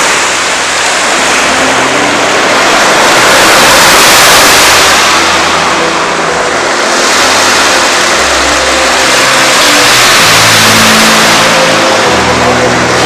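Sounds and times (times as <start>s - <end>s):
low humming tones: 0.0s - 13.0s
sea surf rushing: 0.0s - 13.0s.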